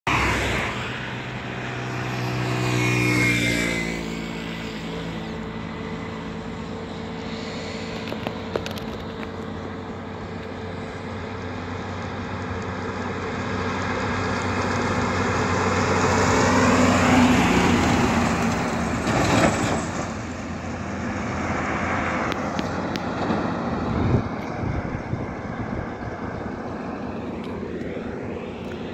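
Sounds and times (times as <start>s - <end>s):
diesel truck passing by: 0.1s - 28.9s
distant traffic noise: 0.1s - 28.9s.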